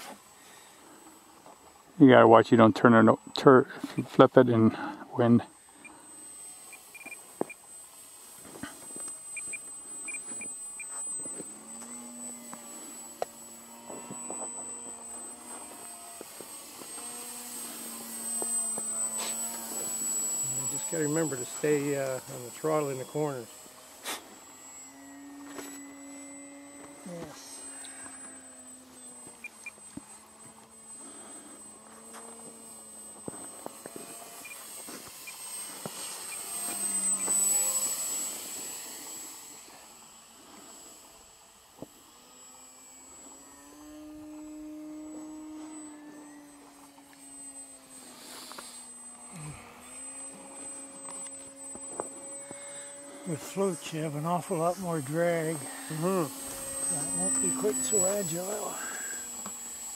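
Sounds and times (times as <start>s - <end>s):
model plane motor humming: 0.0s - 59.9s.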